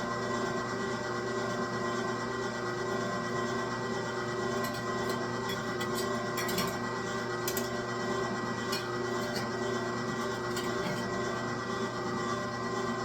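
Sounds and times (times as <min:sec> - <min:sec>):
electric meat grinder humming: 0:00.0 - 0:13.0.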